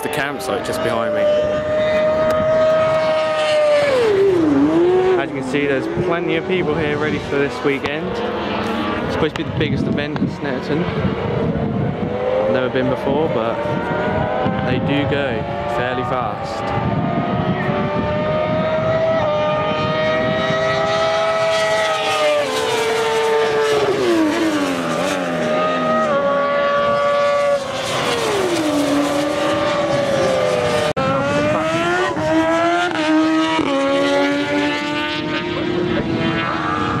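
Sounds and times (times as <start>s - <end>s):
motorbike engines revving: 0.0s - 37.0s.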